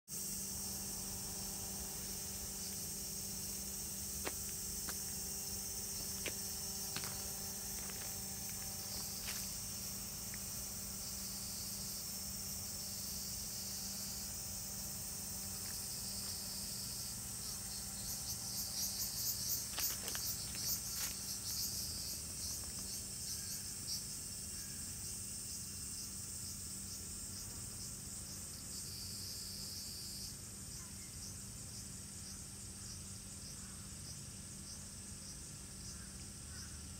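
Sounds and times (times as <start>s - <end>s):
cicada chorus droning: 0.1s - 36.9s
pulsing cicada call: 0.1s - 36.9s.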